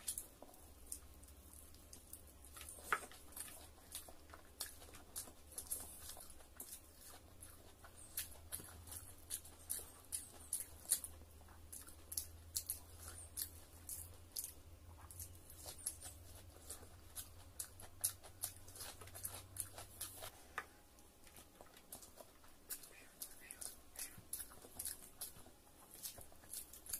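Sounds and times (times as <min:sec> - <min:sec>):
chewing and lip smacking: 0:00.0 - 0:26.9.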